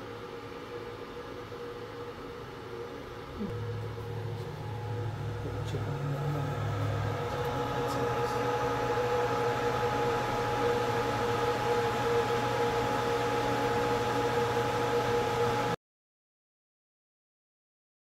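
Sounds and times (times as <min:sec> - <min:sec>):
cooling fans running: 0:00.0 - 0:15.8.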